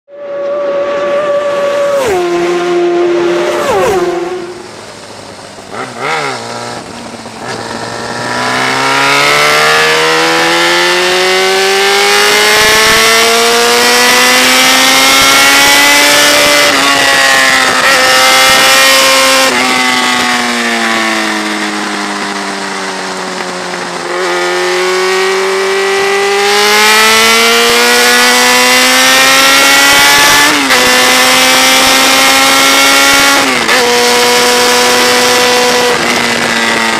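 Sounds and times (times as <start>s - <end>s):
motorcycle engine revving: 0.1s - 36.9s.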